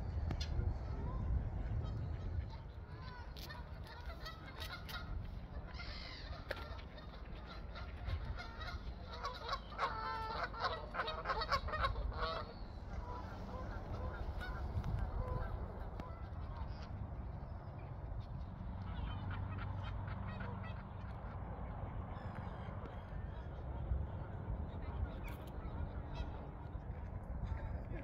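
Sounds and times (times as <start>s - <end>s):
geese honking: 1.8s - 27.9s.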